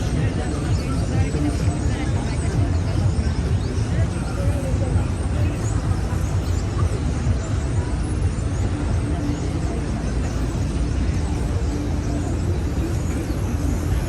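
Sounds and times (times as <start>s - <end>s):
faint engine hum: 0.0s - 14.0s
murmur of voices: 0.0s - 14.0s
traffic rumble: 0.0s - 14.0s.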